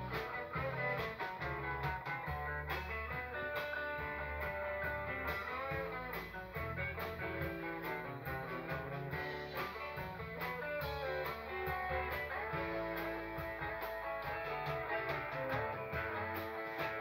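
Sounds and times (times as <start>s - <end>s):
bass guitar: 0.0s - 17.0s
drums keeping a steady beat: 0.0s - 17.0s
electric guitars: 0.0s - 17.0s.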